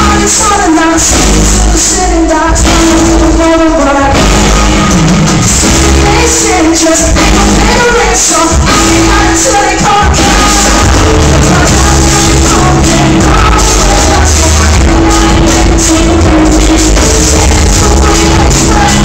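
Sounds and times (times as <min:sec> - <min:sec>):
heavy bass: 0:00.0 - 0:19.0
live band with singer: 0:00.0 - 0:19.0.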